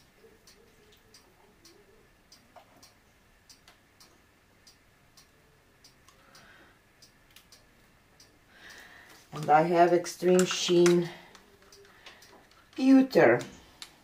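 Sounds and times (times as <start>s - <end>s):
faint sharp ticking: 0.0s - 12.8s.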